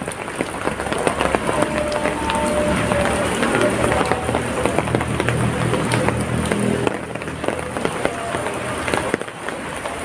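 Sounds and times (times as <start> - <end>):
heavy drops ticking: 0.0 - 10.0
steady rain: 0.0 - 10.0.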